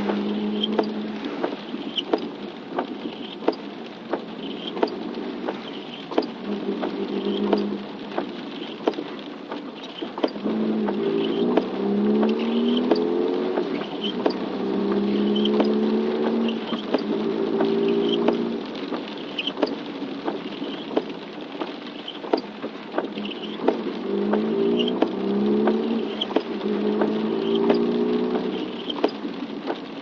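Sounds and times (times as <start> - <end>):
raindrops ticking: 0.0 - 30.0.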